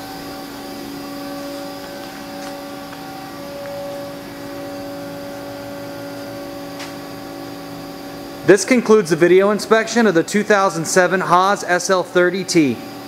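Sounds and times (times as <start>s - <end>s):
lathe machine humming: 0.0s - 13.0s.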